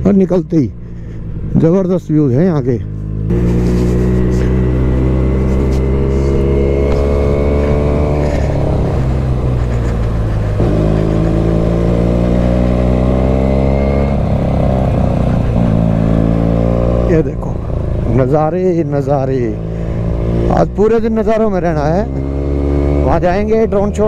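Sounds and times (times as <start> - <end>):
motorcycle engine revving: 0.7 - 24.0.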